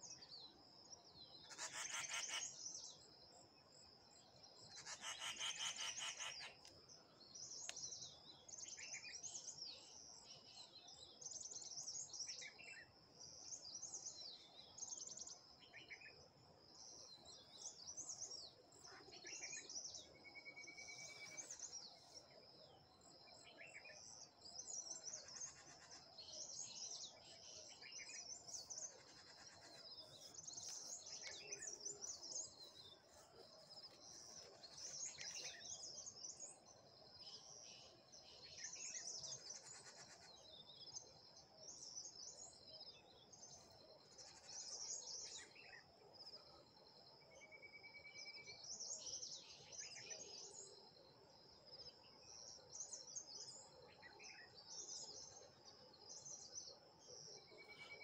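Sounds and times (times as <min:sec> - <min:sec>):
wild birds chirping and trilling: 0:00.0 - 0:58.0.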